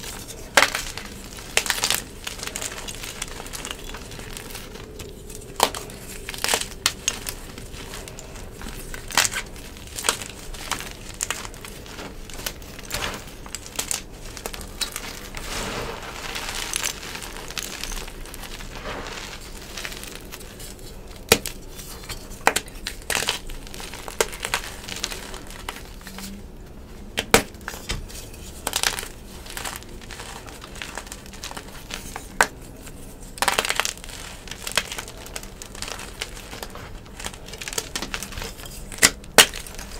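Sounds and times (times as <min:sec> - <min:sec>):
chalk blocks cracking in hands: 0:00.0 - 0:26.4, 0:27.2 - 0:39.9
chalk crumbling: 0:00.0 - 0:26.4, 0:27.2 - 0:39.9.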